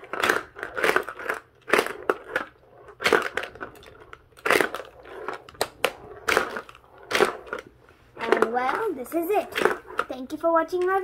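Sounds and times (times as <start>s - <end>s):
sharp plastic clacks: 0.0s - 11.0s.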